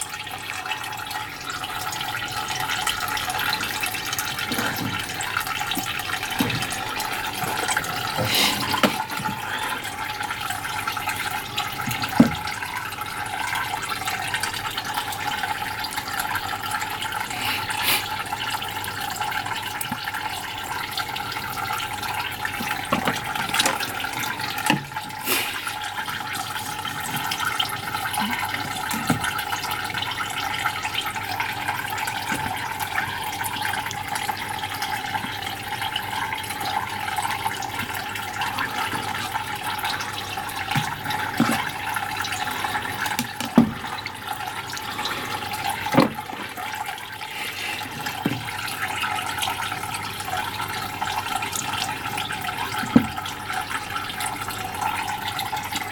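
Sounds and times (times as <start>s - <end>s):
tap water running into sink: 0.0s - 55.9s.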